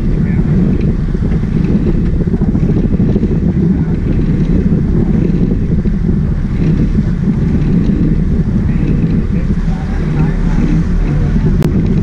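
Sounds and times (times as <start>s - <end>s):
boat engines droning: 0.0s - 12.0s
wind buffeting microphone: 0.0s - 12.0s.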